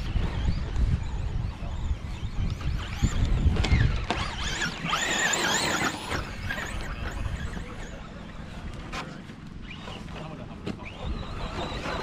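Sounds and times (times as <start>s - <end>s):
wind rumble on microphone: 0.0s - 10.1s
radio-controlled car motors whining: 0.0s - 12.0s.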